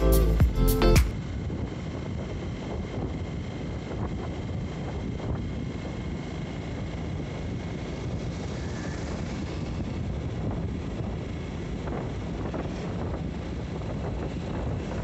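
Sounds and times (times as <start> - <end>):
motorcycle engine: 0.0 - 15.0
wind rushing over microphone: 1.1 - 15.0.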